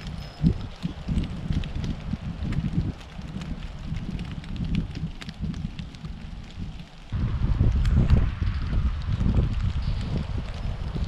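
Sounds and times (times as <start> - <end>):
gusty wind buffeting microphone: 0.0 - 11.0
light ticks and crackles: 0.0 - 11.0.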